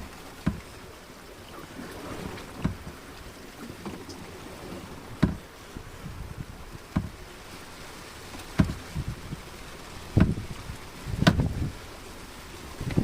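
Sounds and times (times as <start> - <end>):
waves slapping boat hull: 0.0 - 13.0
wind and water rush: 0.0 - 13.0.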